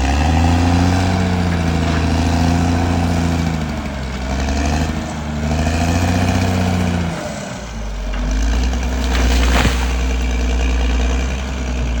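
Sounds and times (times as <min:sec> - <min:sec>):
bulldozer diesel engine running: 0:00.0 - 0:12.0.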